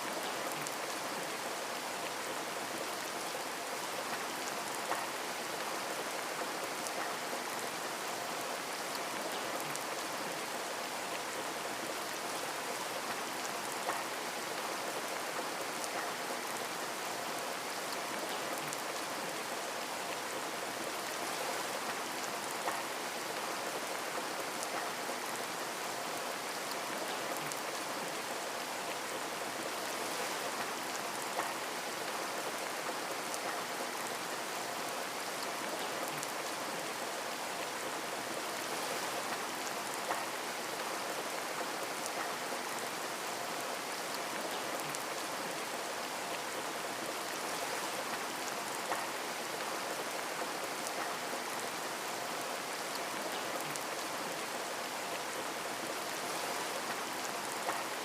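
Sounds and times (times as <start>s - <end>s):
rain on a window: 0.0s - 58.0s.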